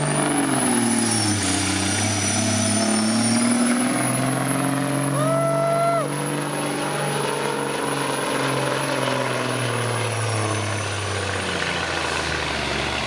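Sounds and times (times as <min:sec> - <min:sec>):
diesel engine labouring: 0:00.0 - 0:13.0.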